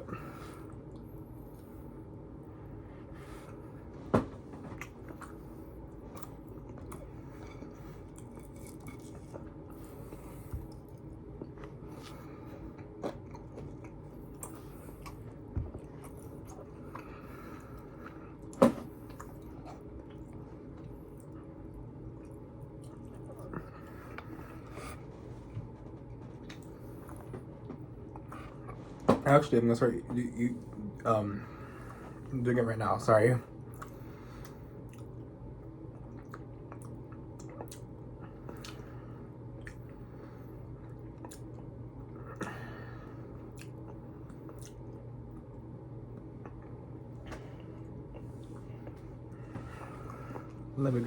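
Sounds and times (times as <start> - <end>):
low hum: 0.0 - 51.0
person chewing food: 4.6 - 29.1, 33.6 - 50.8.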